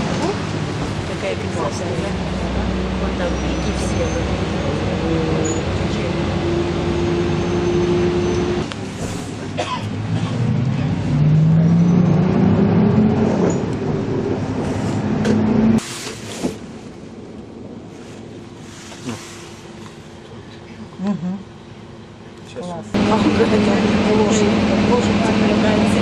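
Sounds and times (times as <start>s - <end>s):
bus engine droning: 0.0s - 26.0s
road noise inside bus: 0.0s - 26.0s.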